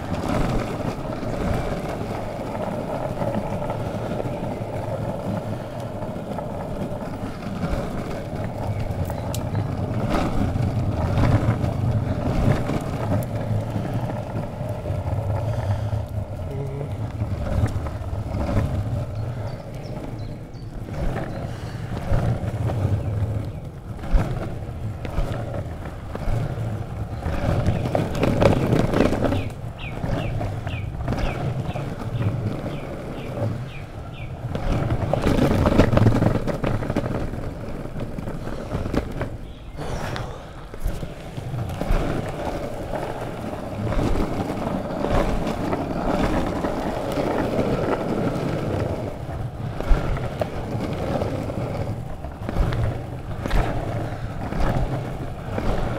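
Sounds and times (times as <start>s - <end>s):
wheels rolling on asphalt: 0.0s - 55.9s.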